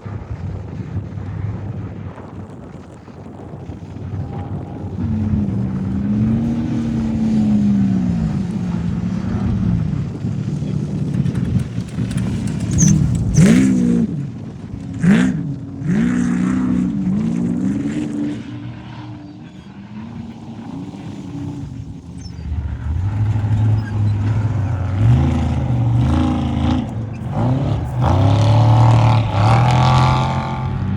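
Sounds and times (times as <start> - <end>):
race vehicle engines revving: 2.1 - 30.9.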